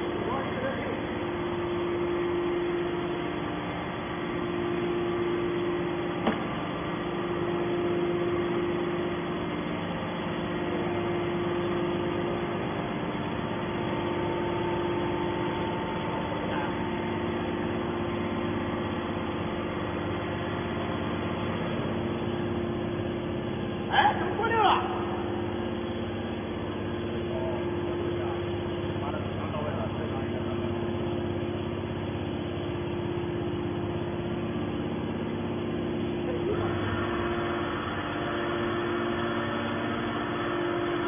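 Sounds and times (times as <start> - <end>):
hydraulic power unit humming: 0.0 - 41.0.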